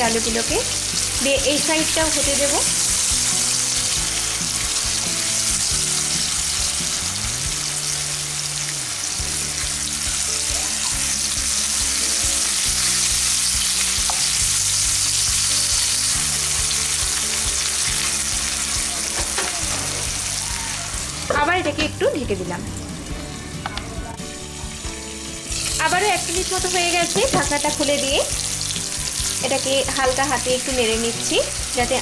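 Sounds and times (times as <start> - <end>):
potato slices sizzling in oil: 0.0 - 22.2, 24.5 - 32.0.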